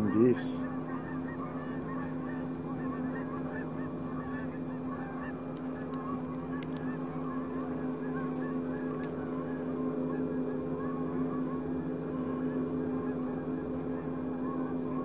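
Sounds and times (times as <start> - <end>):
geese honking: 0.0 - 15.0
steady low hum: 0.0 - 15.0.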